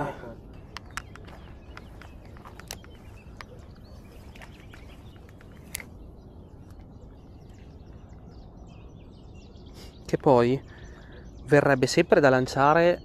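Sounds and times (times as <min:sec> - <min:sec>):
low outdoor background noise: 0:00.0 - 0:13.0
small birds chirping: 0:00.0 - 0:13.0.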